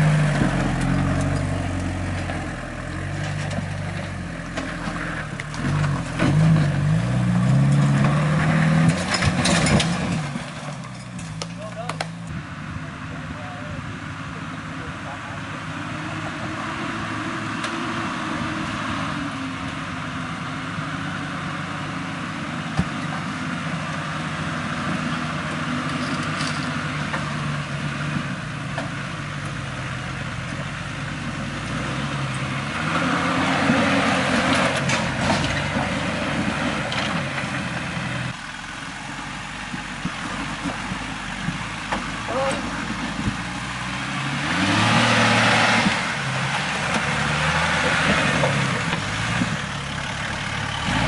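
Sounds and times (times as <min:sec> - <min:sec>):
off-road vehicle engine at low revs: 0:00.0 - 0:51.0.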